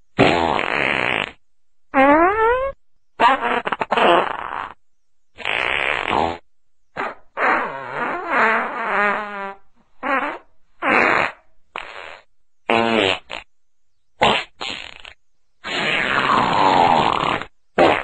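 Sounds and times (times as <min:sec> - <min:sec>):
fart sound effects: 0:00.2 - 0:04.8, 0:05.4 - 0:13.5, 0:14.2 - 0:18.0.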